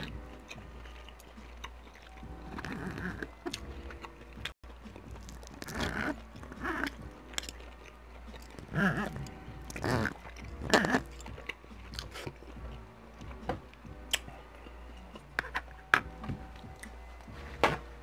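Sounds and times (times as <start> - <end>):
person chewing: 0.0 - 17.4.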